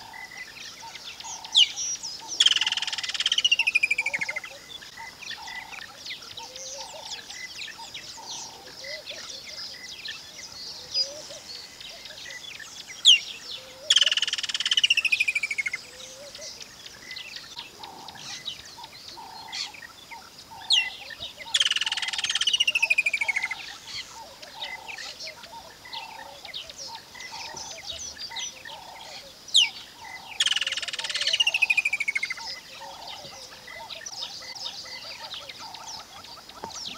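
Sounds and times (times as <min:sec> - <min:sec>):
small bird chirps: 0:05.3 - 0:36.9.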